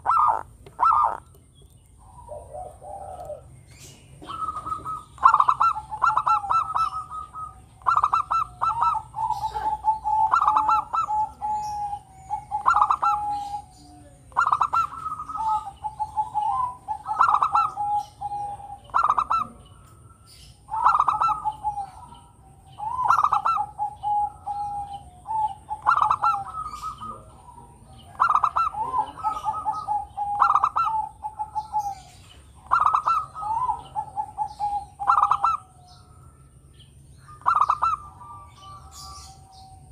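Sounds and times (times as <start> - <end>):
dove cooing: 0.0 - 1.4, 2.0 - 39.9.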